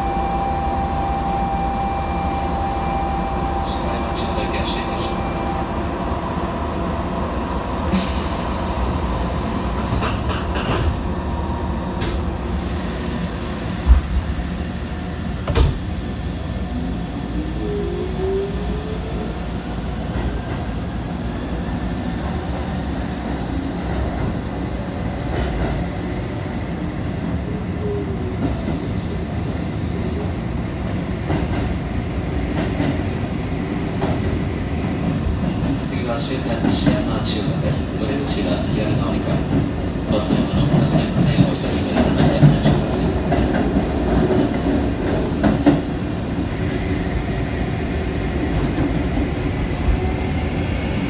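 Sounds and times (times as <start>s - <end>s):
electric train running in tunnel: 0.0s - 51.0s.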